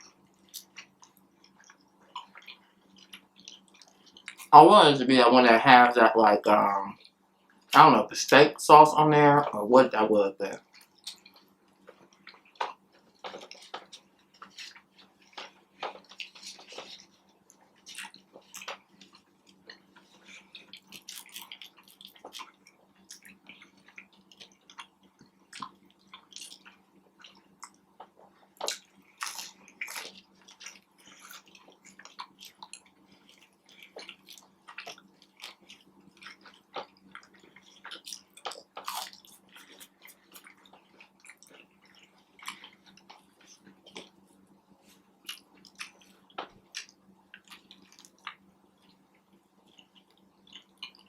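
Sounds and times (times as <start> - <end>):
chewing with wet mouth clicks: 0.0 - 4.5, 10.5 - 51.0.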